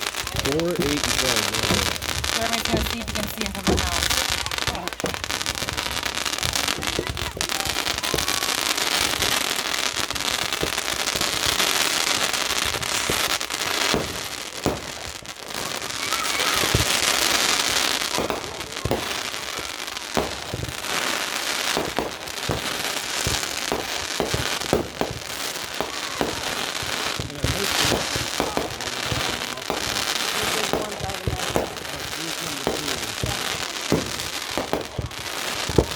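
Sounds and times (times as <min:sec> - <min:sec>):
fireworks crackling and banging: 0:00.0 - 0:35.9.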